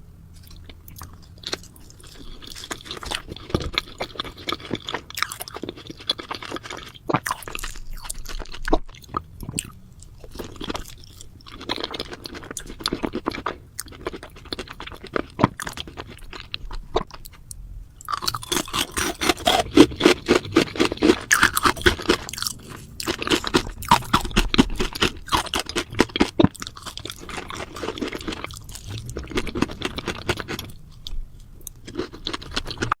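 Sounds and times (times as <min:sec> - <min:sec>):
crunchy chewing: 0:00.3 - 0:33.0.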